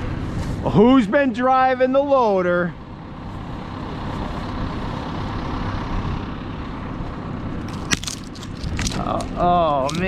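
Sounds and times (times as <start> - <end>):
engine rumbling: 0.0 - 10.0.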